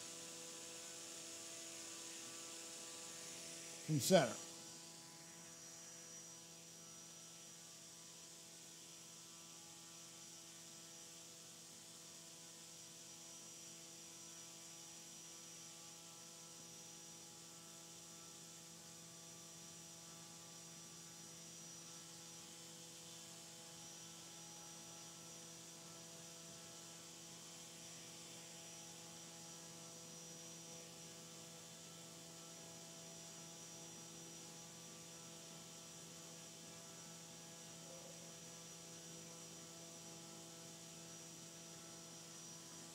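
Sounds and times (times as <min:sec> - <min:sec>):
propeller and electric motor hum: 0:00.0 - 0:42.9.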